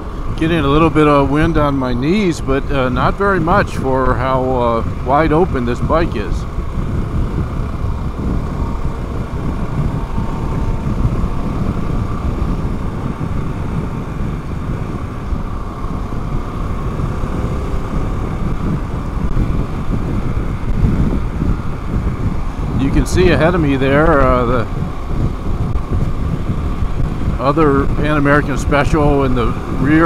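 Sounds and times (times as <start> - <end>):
motorcycle engine at highway speed: 0.0 - 30.0
wind rushing: 0.0 - 30.0.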